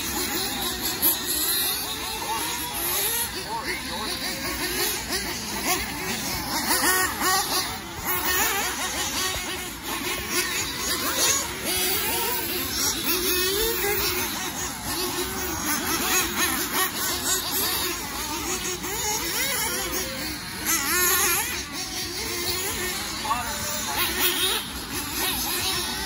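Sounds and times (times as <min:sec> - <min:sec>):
rc car engines whining: 0:00.0 - 0:26.0.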